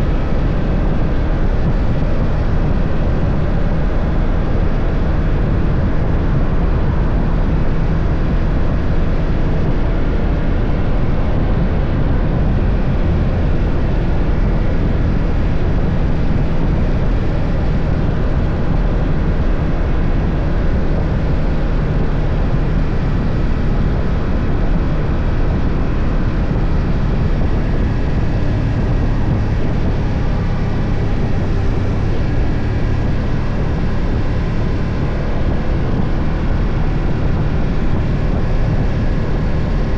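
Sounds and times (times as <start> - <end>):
heavy rush of noise: 0.0 - 39.9
motorcycle engine running: 0.0 - 39.9.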